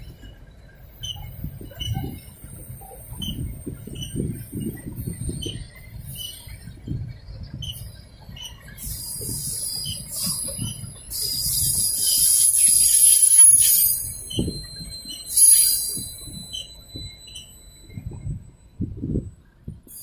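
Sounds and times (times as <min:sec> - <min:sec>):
train wheels squealing on rails: 0:00.0 - 0:20.0
wheels clattering on track: 0:00.0 - 0:20.0.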